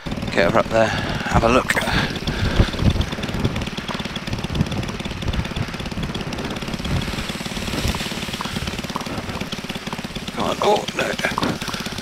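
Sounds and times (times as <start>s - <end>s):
paramotor engine idling: 0.0s - 12.0s.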